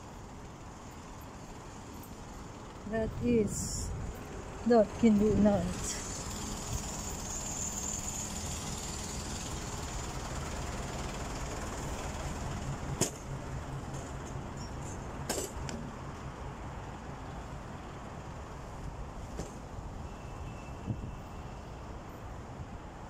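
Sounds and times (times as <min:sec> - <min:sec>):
traffic of passing vehicles: 0:00.0 - 0:23.0.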